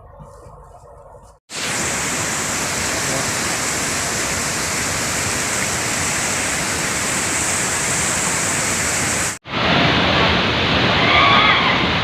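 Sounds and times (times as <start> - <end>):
waterfall roaring: 1.5 - 12.0.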